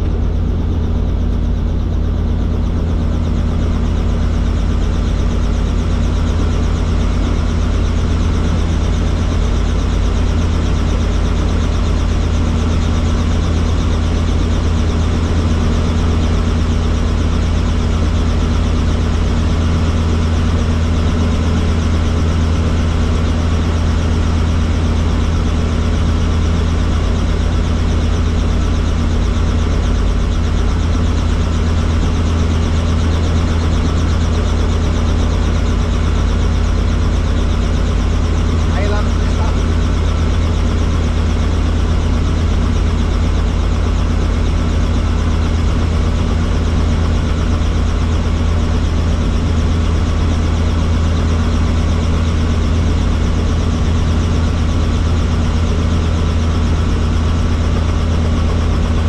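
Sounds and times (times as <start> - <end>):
helicopter engine and rotors: 0.0 - 59.0.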